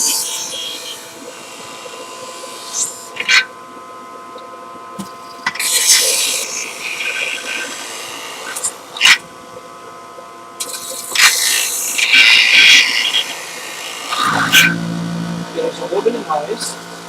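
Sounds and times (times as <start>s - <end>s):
juicer motor whine and grinding: 0.0s - 17.0s.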